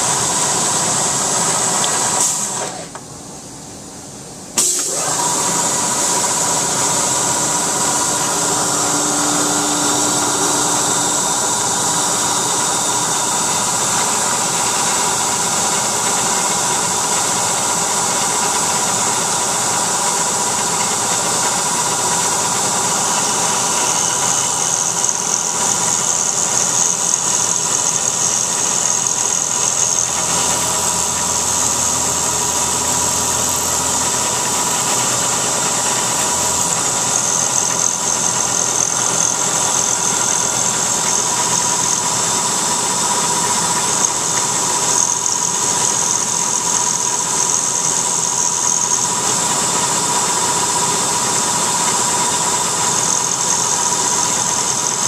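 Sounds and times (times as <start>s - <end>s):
milling machine cutting metal: 0.0s - 3.0s, 4.6s - 55.0s.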